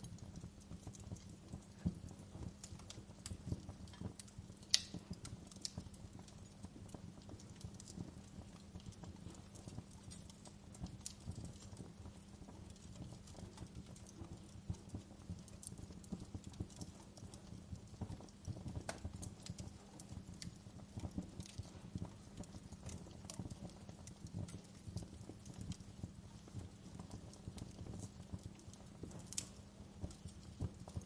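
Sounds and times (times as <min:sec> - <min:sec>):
fire burning in fireplace: 0:00.0 - 0:31.0
fire crackling and popping: 0:00.0 - 0:31.0.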